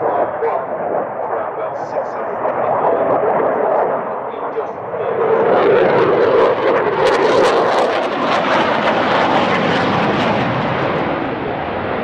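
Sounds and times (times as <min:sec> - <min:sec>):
jet engines in afterburner: 0:00.0 - 0:12.0
rough crackle of jet engines: 0:00.0 - 0:12.0.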